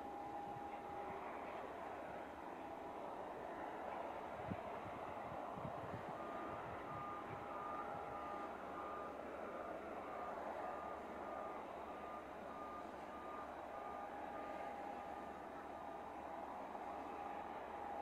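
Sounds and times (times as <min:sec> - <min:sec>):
reversing alarm beeping: 0:00.0 - 0:01.6, 0:04.8 - 0:18.0
rumble of aircraft and machinery: 0:00.0 - 0:18.0.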